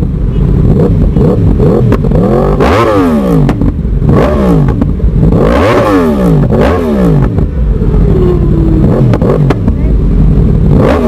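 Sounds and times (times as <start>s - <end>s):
exhaust crackle: 0.0s - 11.0s
motorcycle engine revving: 0.0s - 11.0s.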